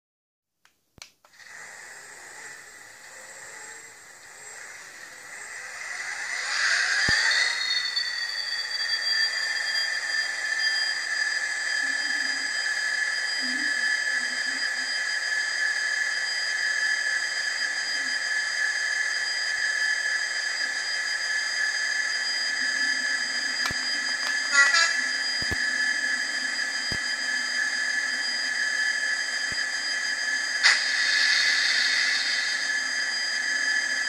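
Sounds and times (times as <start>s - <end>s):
model train diesel engine sound: 1.3s - 34.0s.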